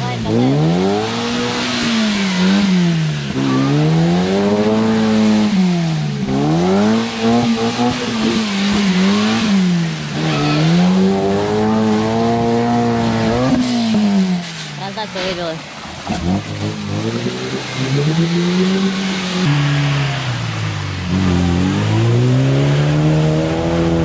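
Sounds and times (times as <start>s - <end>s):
van engine revving: 0.0s - 24.0s.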